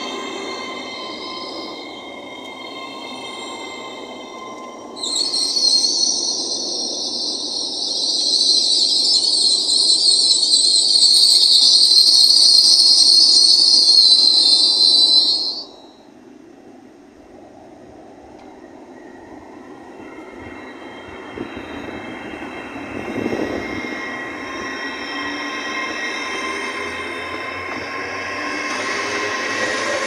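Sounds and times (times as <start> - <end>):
train brakes hissing: 0.0 - 16.2, 18.6 - 30.0
train rolling rumble: 0.0 - 30.0.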